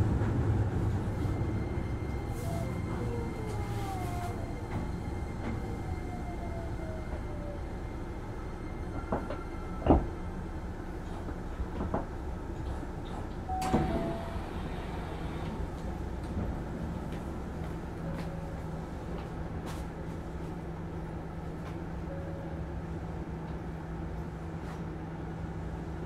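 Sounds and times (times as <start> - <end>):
train equipment humming: 0.0 - 26.0.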